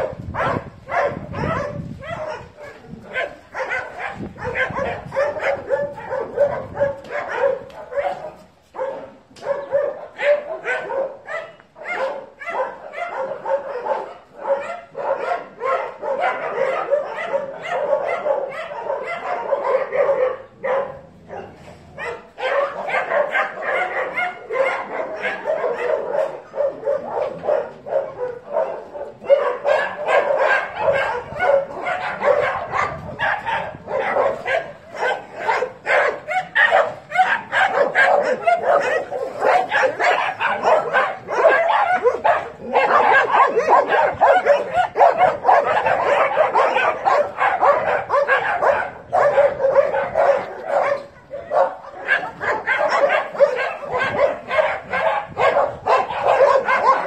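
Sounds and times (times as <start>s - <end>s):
dogs barking and yipping: 0.0s - 57.0s.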